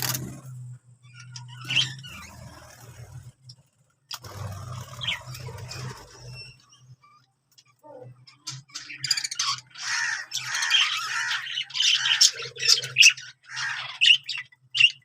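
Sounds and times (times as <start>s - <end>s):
birds scratching and shuffling: 0.0s - 12.8s.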